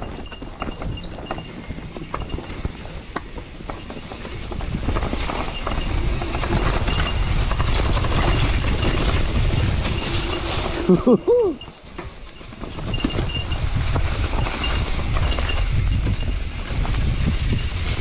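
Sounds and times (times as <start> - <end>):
bike rattling over rough ground: 0.0 - 18.0
wind rumble on microphone: 0.0 - 18.0.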